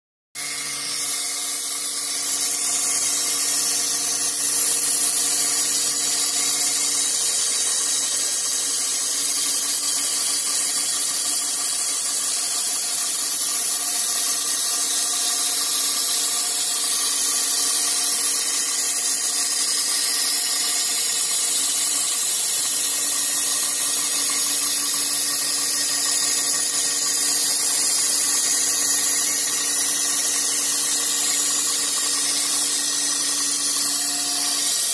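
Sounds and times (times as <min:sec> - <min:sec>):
milling machine humming: 0:00.4 - 0:34.9.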